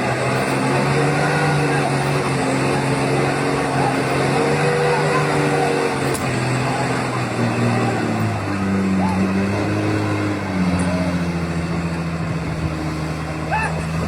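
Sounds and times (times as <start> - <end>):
heavy truck engine revving hard: 0.0 - 14.0.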